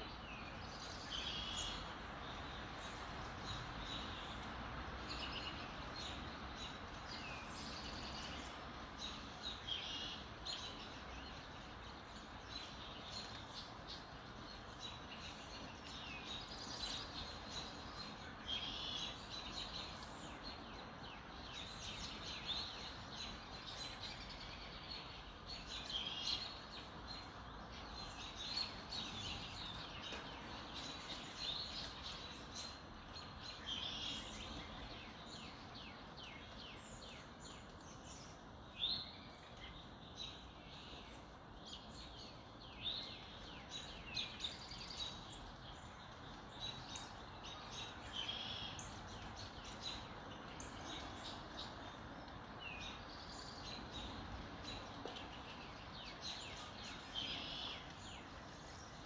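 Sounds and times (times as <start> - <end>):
outdoor ambience hiss: 0.0 - 59.0
small birds chirping: 0.0 - 59.0.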